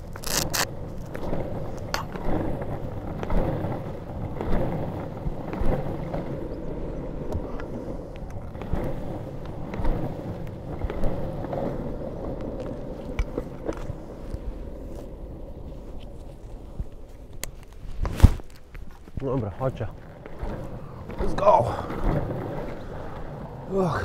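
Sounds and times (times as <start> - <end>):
skateboard wheels rolling on tarmac: 0.0 - 24.0
wheels clicking over bumps: 0.0 - 24.0.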